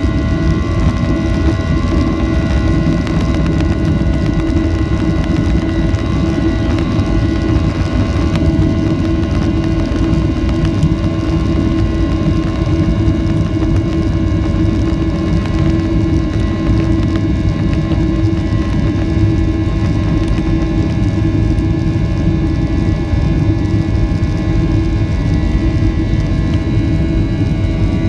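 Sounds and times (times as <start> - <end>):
jet engines rumbling and whining: 0.0 - 28.0.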